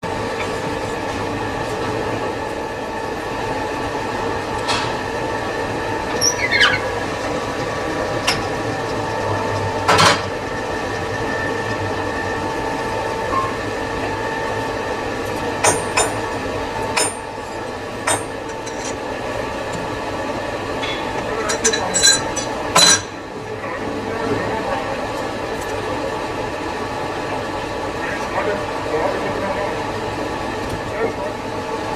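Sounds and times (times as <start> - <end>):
lathe humming: 0.0 - 31.9.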